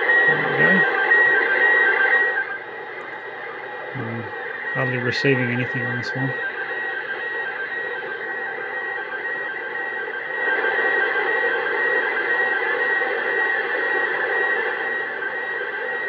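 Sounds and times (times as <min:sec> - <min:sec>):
faint slow-scan tv signal: 0:00.0 - 0:16.0
radio static hiss: 0:00.0 - 0:16.0.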